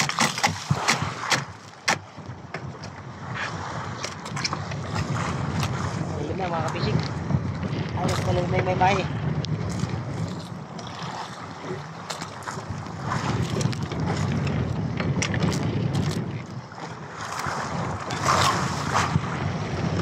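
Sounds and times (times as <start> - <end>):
sea water washing around boat: 0.0 - 20.0
wind buffeting microphone: 0.0 - 20.0.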